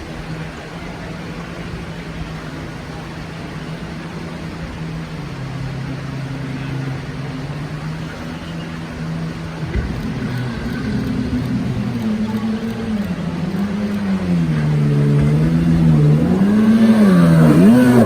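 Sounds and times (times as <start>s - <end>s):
boat engine droning: 0.0s - 18.0s
lower engine note: 0.0s - 18.0s.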